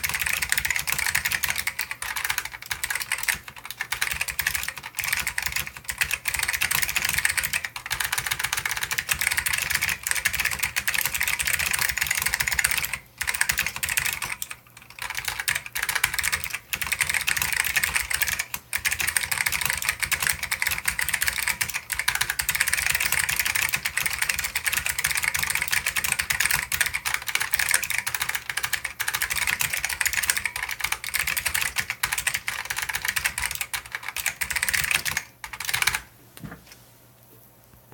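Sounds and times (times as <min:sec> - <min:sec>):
fast clicky keyboard typing: 0:00.0 - 0:36.1.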